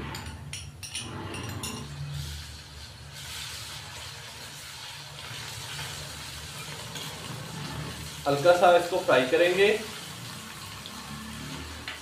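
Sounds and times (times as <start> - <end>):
paste sizzling in hot oil: 2.0 - 12.0.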